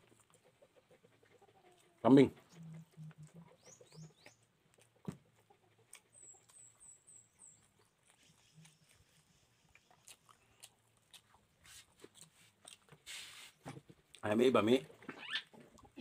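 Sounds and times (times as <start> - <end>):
faint chewing: 0.0 - 16.0.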